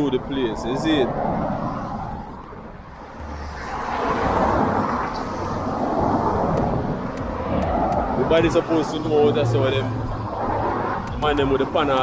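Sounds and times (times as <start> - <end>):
passing vehicle engine and tyres: 0.0 - 12.0.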